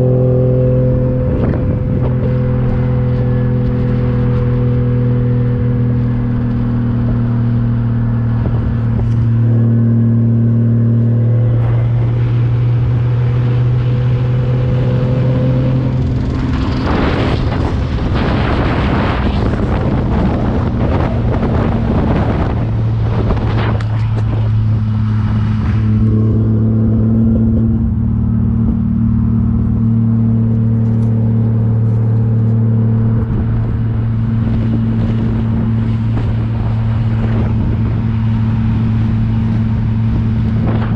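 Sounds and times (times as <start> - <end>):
car engine cruising: 0.0 - 40.9
rushing crackling engine noise: 0.0 - 40.9.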